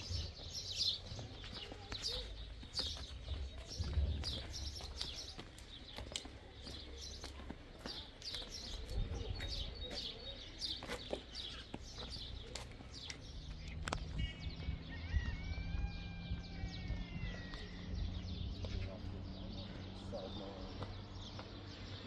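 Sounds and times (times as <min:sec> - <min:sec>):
small birds chirping: 0:00.0 - 0:15.0, 0:16.3 - 0:22.0.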